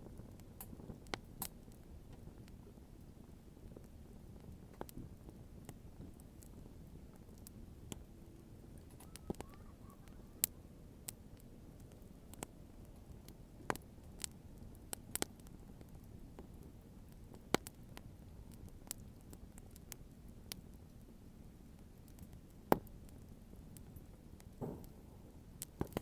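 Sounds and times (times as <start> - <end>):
burning wood popping and snapping: 0.0 - 2.7, 3.3 - 9.6, 10.4 - 20.8, 21.7 - 26.0
low steady fire rumble: 0.0 - 26.0.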